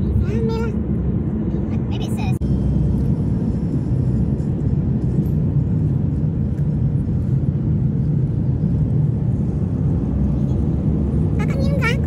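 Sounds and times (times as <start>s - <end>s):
car engine: 0.0s - 12.0s
road and tyre noise: 0.0s - 12.0s.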